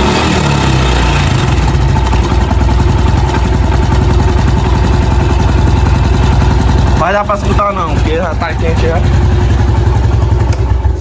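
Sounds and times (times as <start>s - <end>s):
motorcycle engine idling: 0.0s - 11.0s
faint engine knock: 1.8s - 11.0s.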